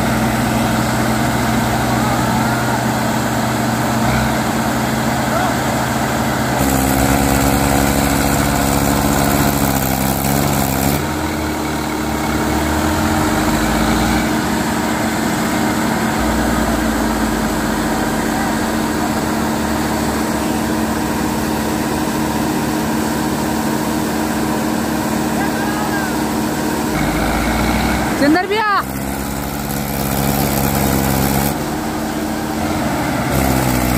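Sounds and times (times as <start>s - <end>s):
diesel tractor engines idling: 0.0s - 33.9s.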